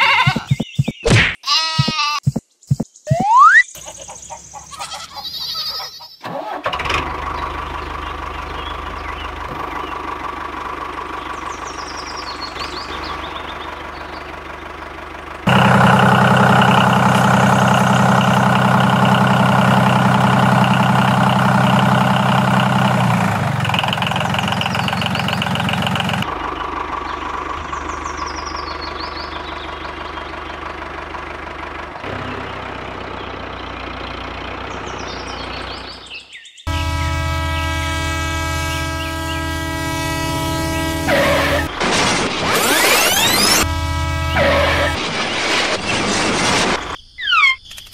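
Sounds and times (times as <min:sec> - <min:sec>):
tractor engine running: 0:06.2 - 0:47.0.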